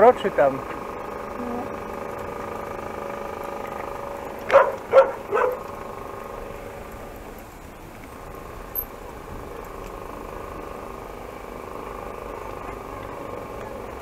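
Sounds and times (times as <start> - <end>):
vehicle engines droning: 0.0 - 14.0.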